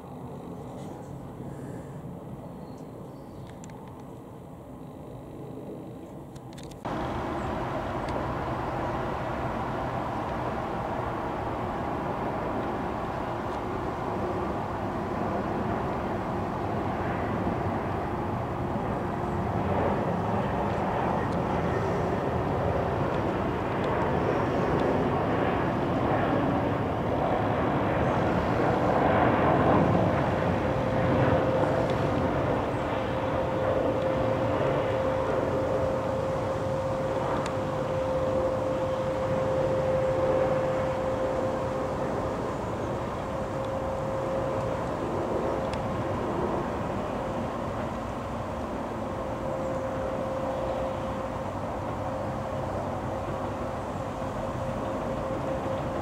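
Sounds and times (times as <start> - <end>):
jet airliner rumble: 0.0 - 56.0
jet engine whine: 0.0 - 56.0.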